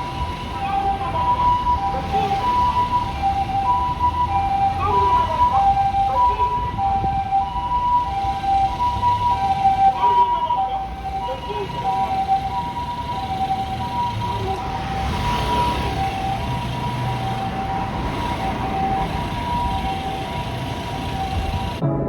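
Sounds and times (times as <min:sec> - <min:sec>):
low traffic rumble: 0:00.0 - 0:21.8
two-tone ambulance siren: 0:00.0 - 0:21.9.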